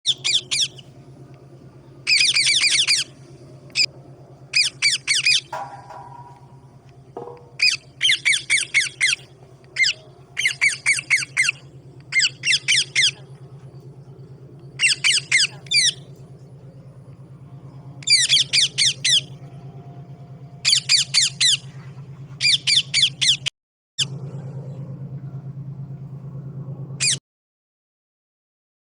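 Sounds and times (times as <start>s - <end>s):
steady low hum: 0.1s - 27.2s.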